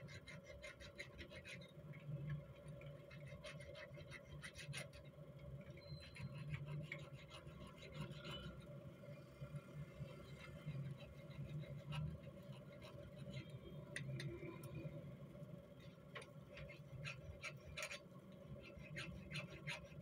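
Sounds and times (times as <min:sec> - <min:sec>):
needle file scraping metal: 0:00.0 - 0:08.8, 0:10.0 - 0:14.9, 0:15.7 - 0:20.0.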